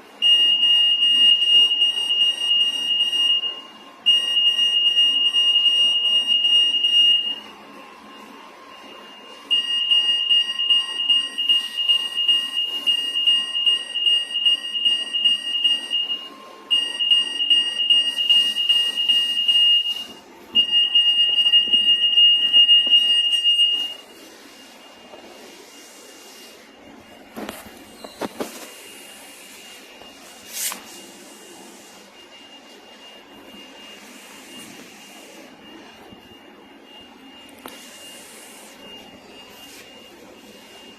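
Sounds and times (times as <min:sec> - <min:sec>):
security gate alarm beeping: 0:00.2 - 0:07.5, 0:08.1 - 0:40.9.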